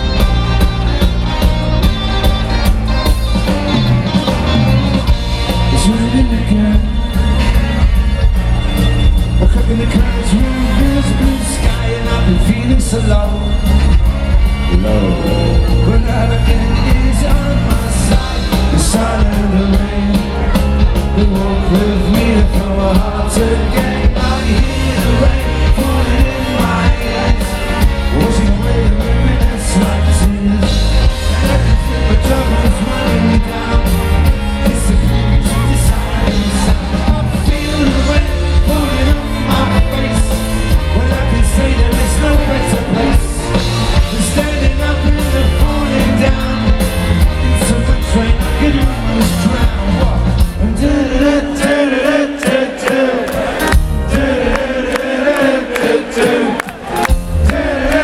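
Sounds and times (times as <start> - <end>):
bass: 0.0 - 52.2, 52.9 - 58.0
driving drum beat: 0.0 - 58.0
lead singer: 0.0 - 58.0
ska-pop band playing live: 0.0 - 58.0.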